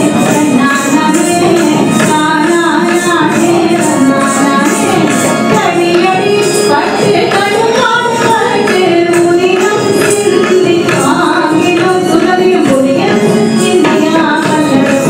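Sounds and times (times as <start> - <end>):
keyboard: 0.0 - 15.0
woman singing: 0.0 - 15.0.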